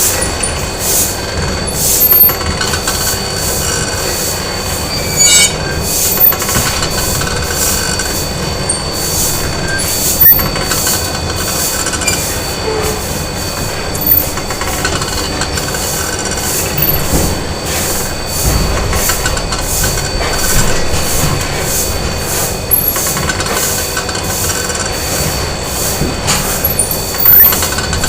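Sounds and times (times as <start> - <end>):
factory machinery din: 0.0 - 28.0
high machine whine: 0.0 - 28.0
rhythmic mechanical pulsing: 0.0 - 28.0.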